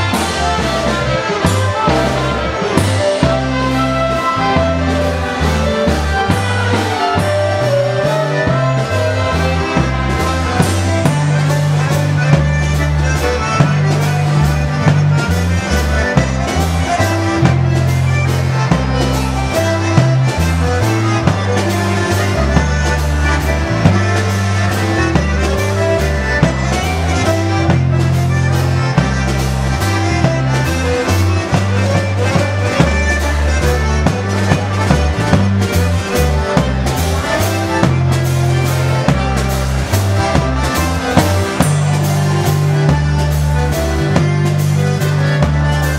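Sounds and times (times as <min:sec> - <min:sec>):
concertina melody: 0:00.0 - 0:45.9
drums: 0:00.0 - 0:45.9
electric bass: 0:00.0 - 0:45.9.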